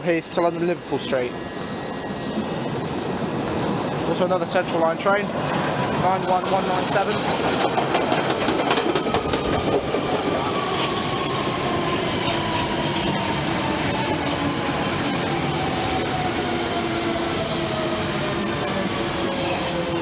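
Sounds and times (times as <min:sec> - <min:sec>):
rumble of wheels on rail: 0:00.0 - 0:20.0.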